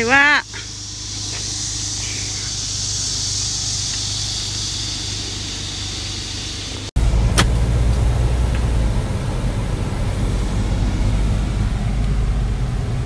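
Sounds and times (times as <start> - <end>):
car engine and road rumble: 0.0 - 13.0
high hiss: 0.0 - 13.0.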